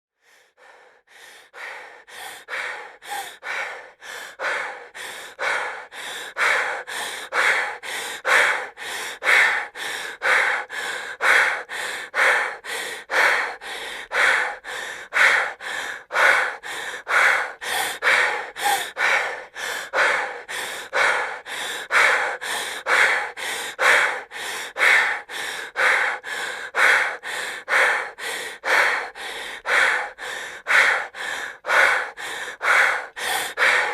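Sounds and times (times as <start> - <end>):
woman breathing heavily: 0.2 - 33.9.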